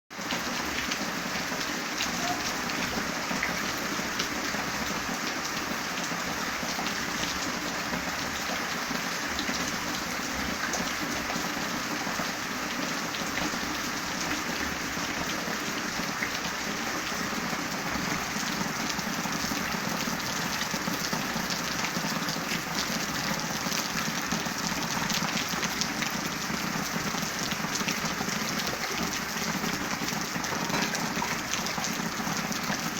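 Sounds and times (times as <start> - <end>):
steady rain falling: 0.1 - 32.9.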